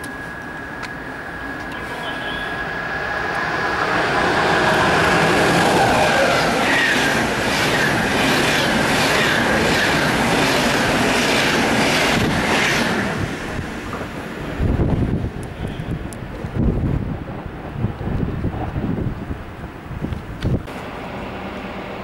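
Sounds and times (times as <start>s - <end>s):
passing train rumble: 0.0s - 22.0s.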